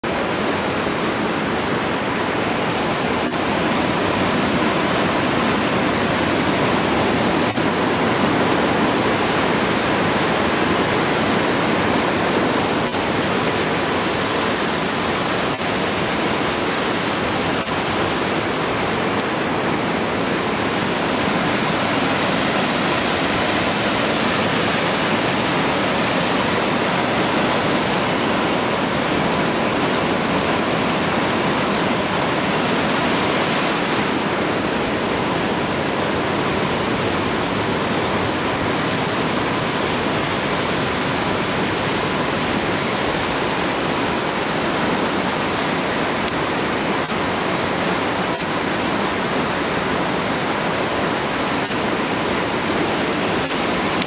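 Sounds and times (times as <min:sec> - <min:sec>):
waterfall rushing over rock: 0:00.0 - 0:54.0.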